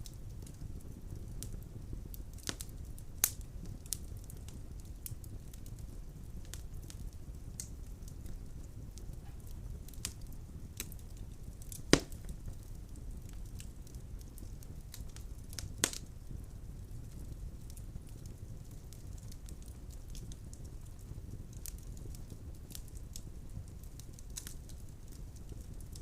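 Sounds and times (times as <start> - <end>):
fire crackling: 0.0 - 26.0
fire flames rumbling: 0.0 - 26.0
loud fire pops: 0.0 - 26.0.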